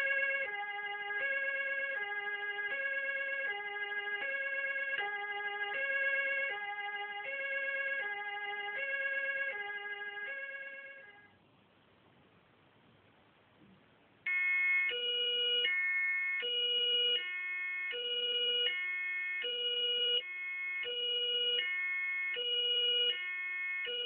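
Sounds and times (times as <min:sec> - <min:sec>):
two-tone police siren: 0:00.0 - 0:11.3, 0:14.3 - 0:24.0.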